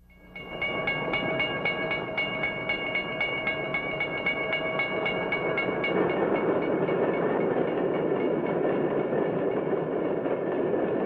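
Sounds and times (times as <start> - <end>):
crossing warning bell ringing: 0.0 - 10.6
passing train rumble: 0.1 - 11.0.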